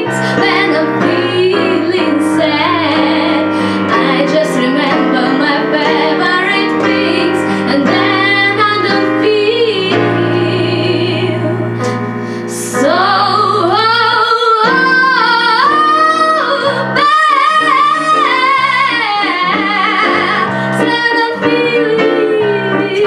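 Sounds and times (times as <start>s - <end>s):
piano chords: 0.0s - 23.0s
woman singing: 0.0s - 23.0s.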